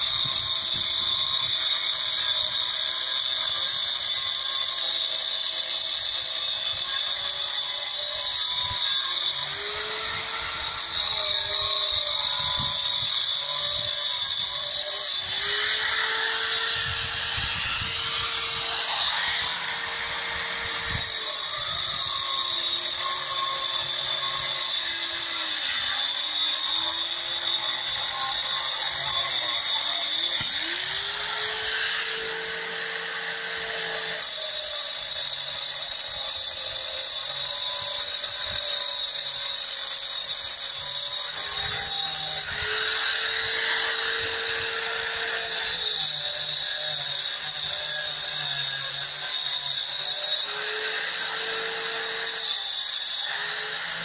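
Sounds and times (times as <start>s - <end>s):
angle grinder grinding concrete: 0.0s - 54.0s.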